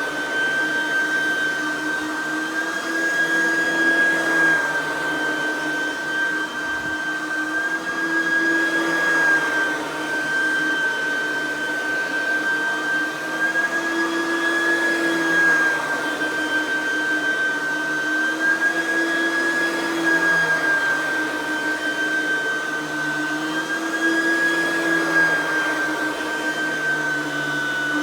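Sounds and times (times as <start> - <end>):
vacuum cleaner motor whining: 0.0 - 28.0.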